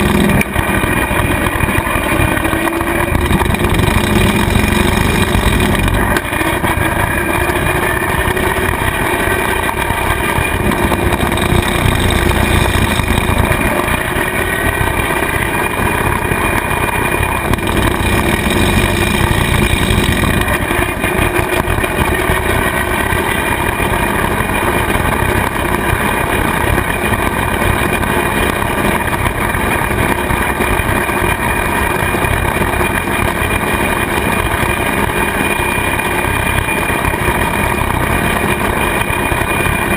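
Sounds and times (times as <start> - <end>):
rotary cutter whine: 0.0 - 39.9
tractor diesel engine: 0.0 - 39.9.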